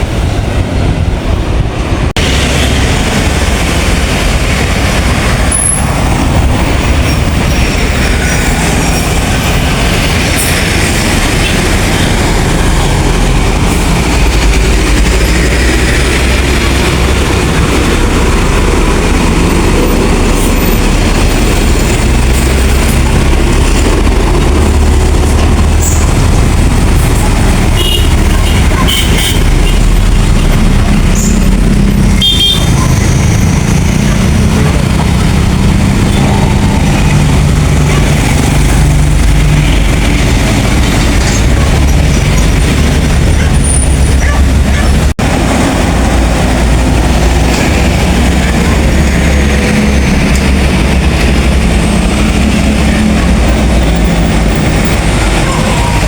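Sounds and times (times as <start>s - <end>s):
buses and traffic rumbling: 0.0s - 56.0s.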